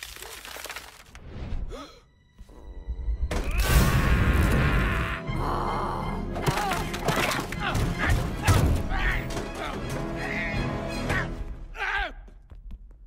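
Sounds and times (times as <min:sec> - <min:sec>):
film music: 0:01.1 - 0:12.2.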